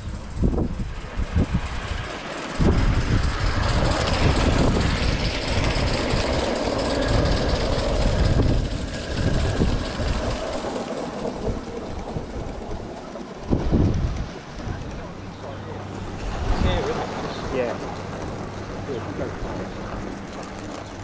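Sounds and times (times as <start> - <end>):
model train running on track: 0.0 - 21.0
wind rumble on microphone: 0.0 - 21.0.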